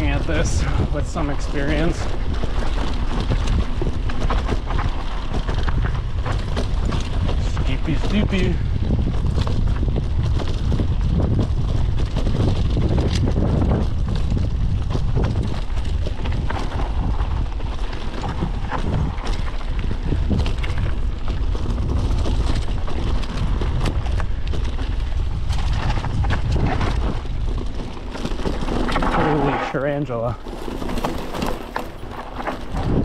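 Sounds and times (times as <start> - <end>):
bike rattling over bumps: 0.0 - 33.0
wind buffeting microphone: 0.0 - 33.0.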